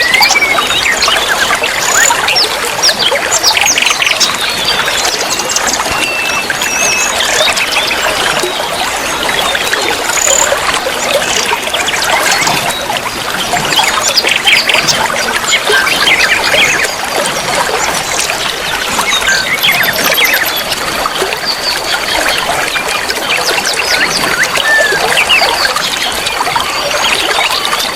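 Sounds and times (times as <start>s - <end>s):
songbirds chirping: 0.0s - 27.9s
water trickling and splashing: 0.0s - 27.9s.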